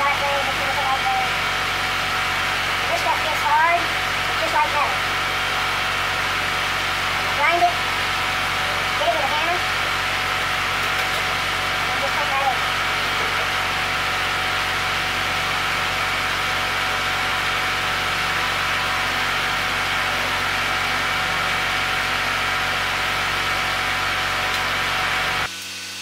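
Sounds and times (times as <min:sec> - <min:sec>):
machine drone with whooshing hiss: 0:00.0 - 0:26.0.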